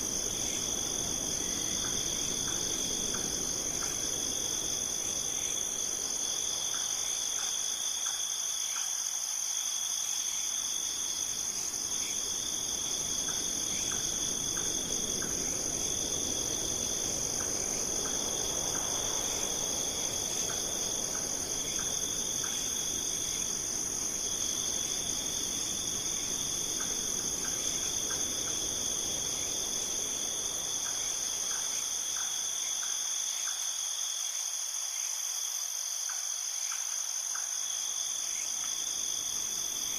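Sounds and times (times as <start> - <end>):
continuous high insect trill: 0.0 - 39.9
lower insect trill: 0.0 - 39.9.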